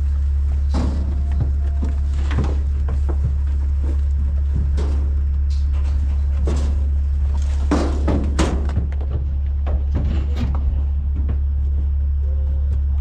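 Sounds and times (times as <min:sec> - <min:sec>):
knocks and thuds: 0:00.0 - 0:12.1
machine droning: 0:00.0 - 0:13.0.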